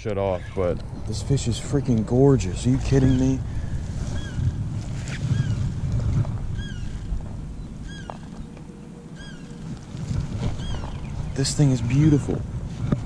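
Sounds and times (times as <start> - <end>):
bird chirping: 0.0 - 5.8, 6.5 - 12.3
wind rumble on microphone: 0.2 - 13.0.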